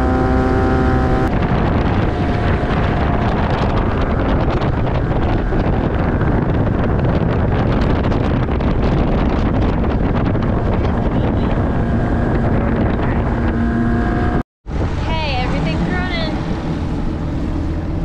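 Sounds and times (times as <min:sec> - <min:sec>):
outboard motor running: 0:00.0 - 0:14.4
wind buffeting microphone: 0:00.0 - 0:18.0.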